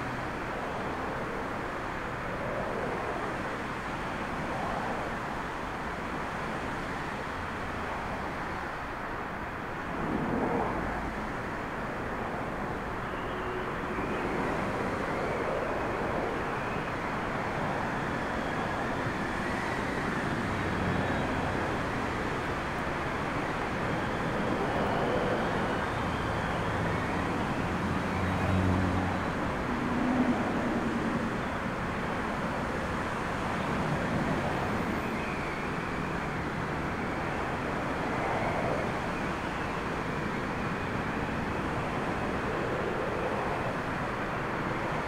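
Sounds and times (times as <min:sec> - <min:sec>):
distant jet engines: 0:00.0 - 0:45.0.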